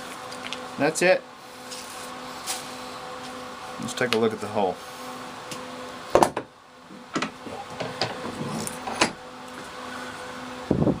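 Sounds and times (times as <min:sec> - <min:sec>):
faint workshop hum: 0:00.0 - 0:11.0.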